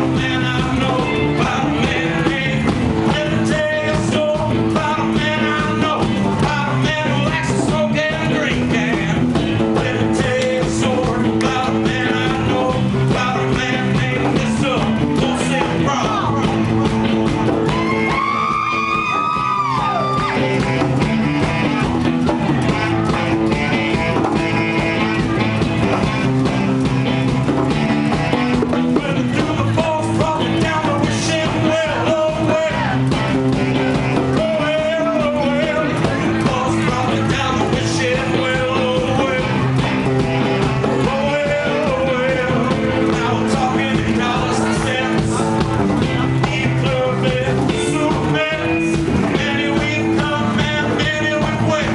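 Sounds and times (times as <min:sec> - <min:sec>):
bending guitar line: 0:00.0 - 0:51.9
person singing: 0:00.0 - 0:51.9
rock band playing: 0:00.0 - 0:51.9.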